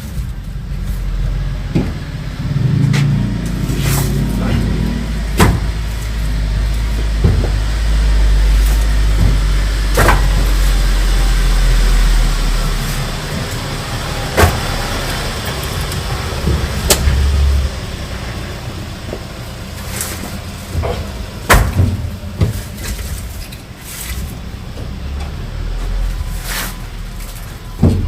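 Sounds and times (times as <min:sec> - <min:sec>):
vehicle low rumble: 0:00.0 - 0:28.0.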